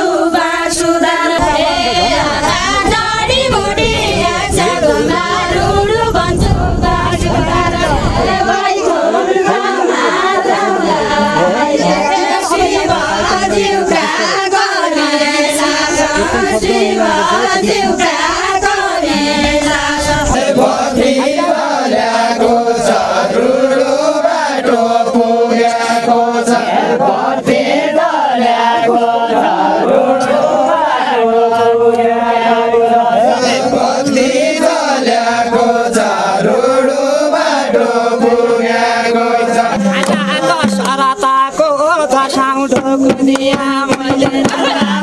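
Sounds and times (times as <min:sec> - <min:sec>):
group singing in unison: 0:00.0 - 0:45.0.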